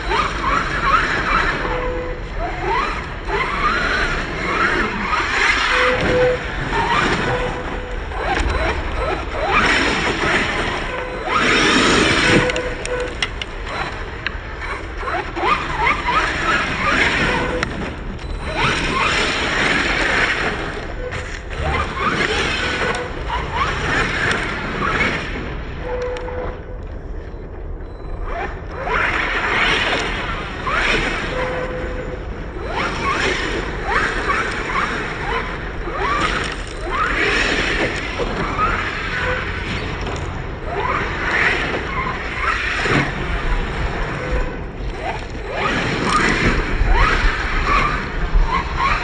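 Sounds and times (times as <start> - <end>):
radio-controlled truck motor: 0.0 - 27.2, 28.2 - 49.0.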